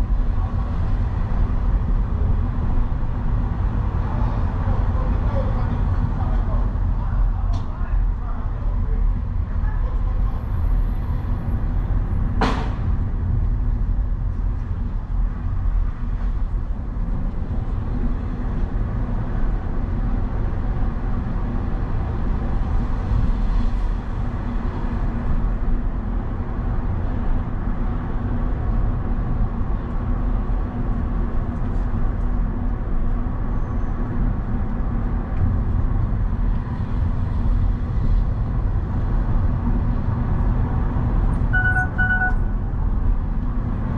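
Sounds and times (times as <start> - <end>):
vehicle driving rumble: 0.0 - 43.9.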